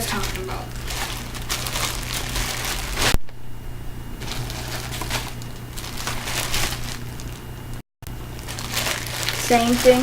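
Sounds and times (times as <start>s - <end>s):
plastic packaging crinkling: 0.0s - 3.2s, 4.2s - 10.0s
steady low hum: 0.0s - 10.0s.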